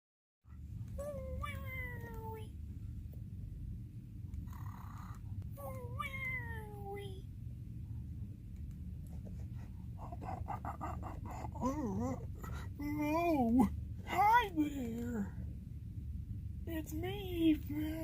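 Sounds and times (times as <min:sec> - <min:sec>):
steady low hum: 0:00.5 - 0:18.0.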